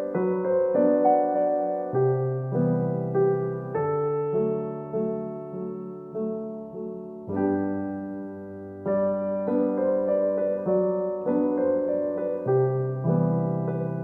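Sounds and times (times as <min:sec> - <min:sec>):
gentle solo piano piece: 0:00.0 - 0:14.0.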